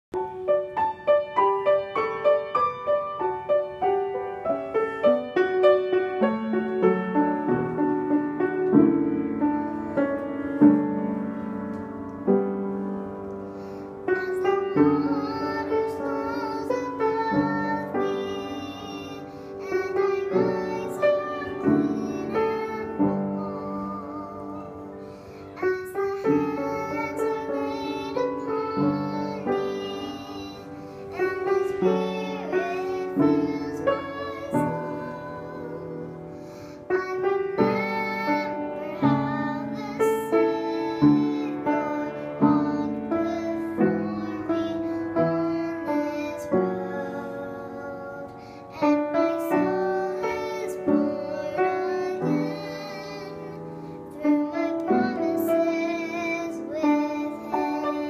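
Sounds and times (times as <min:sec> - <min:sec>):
girl singing: 0:00.1 - 0:58.0
upright piano playing: 0:00.1 - 0:58.0.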